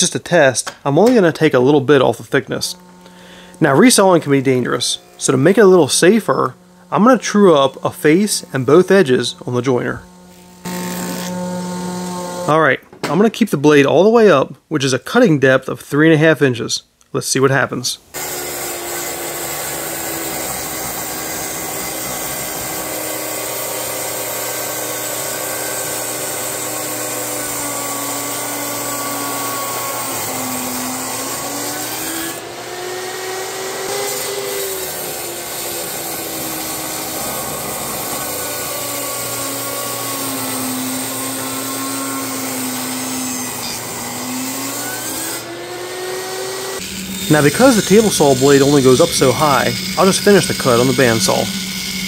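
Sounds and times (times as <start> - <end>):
table saw cutting wood: 1.0 - 12.7, 18.1 - 52.0.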